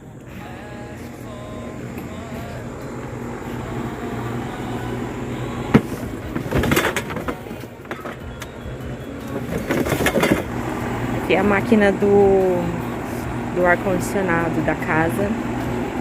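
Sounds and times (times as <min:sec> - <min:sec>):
air conditioning unit humming: 0:00.0 - 0:16.0.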